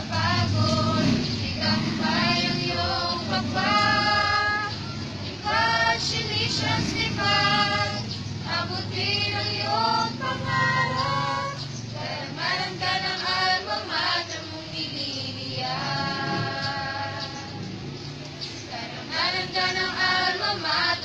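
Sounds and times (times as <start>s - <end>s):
choir singing a hymn: 0.0s - 17.9s, 18.5s - 21.0s.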